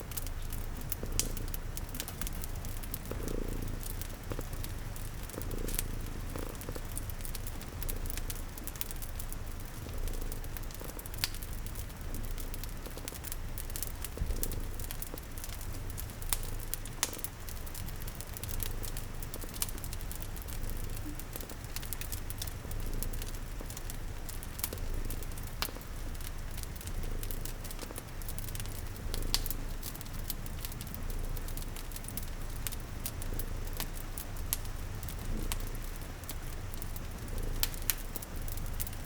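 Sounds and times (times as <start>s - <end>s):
cat purring: 0.0s - 39.0s
rain pattering: 0.0s - 39.0s
wood fire crackling: 0.0s - 39.0s.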